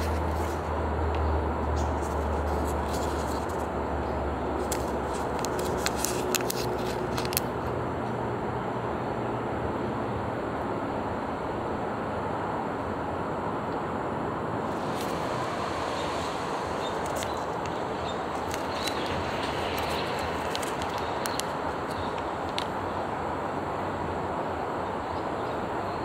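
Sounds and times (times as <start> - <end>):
outdoor background rumble: 0.0 - 26.0.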